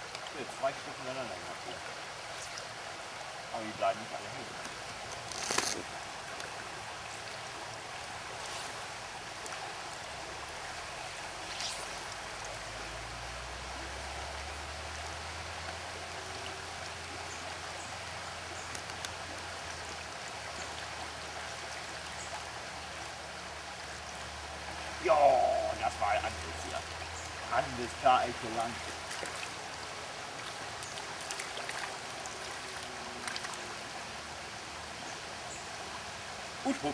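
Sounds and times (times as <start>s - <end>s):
shallow river water flowing: 0.0s - 36.9s.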